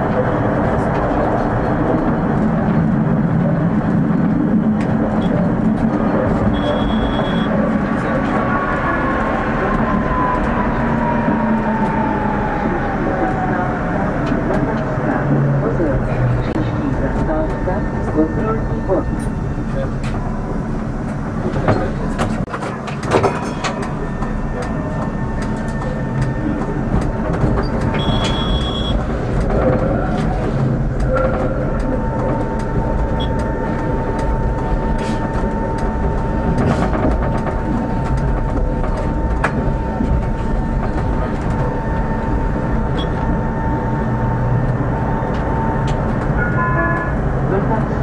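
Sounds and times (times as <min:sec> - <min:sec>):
steady whine: 0:00.0 - 0:48.0
tram clacking over points: 0:00.0 - 0:48.0
tram wheels on rails: 0:00.0 - 0:48.0.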